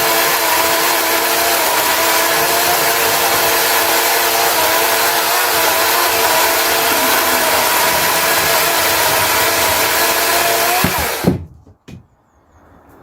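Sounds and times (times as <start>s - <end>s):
chainsaw stopping knock: 0.0s - 11.4s
electric chainsaw cutting log: 0.0s - 11.4s.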